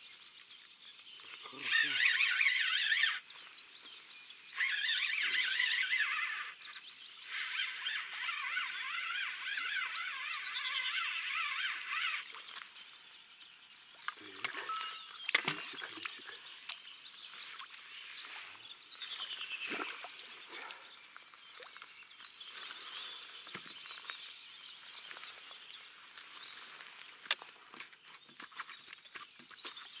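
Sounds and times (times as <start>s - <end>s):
songbirds singing and chirping: 0.0s - 30.0s.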